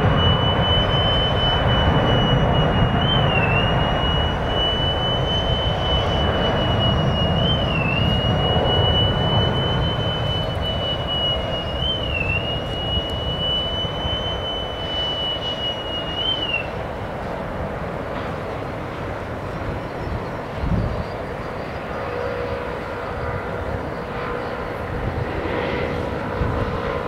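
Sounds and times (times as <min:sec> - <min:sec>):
distant jet engines roaring: 0:00.0 - 0:27.0
high-pitched whine: 0:00.0 - 0:27.0.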